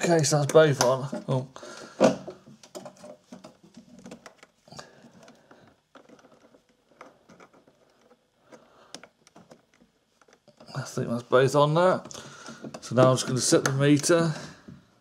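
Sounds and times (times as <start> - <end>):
wires clicking and rustling: 0.0 - 14.4.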